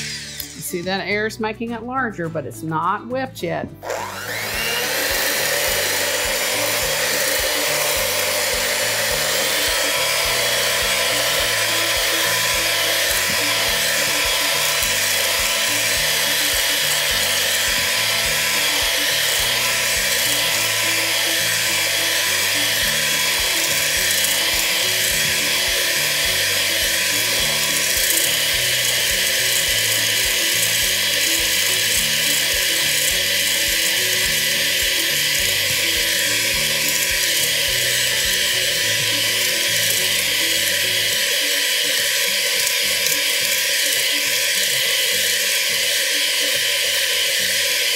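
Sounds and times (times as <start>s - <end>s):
electric hand mixer whining: 0.0s - 1.4s, 3.7s - 47.9s.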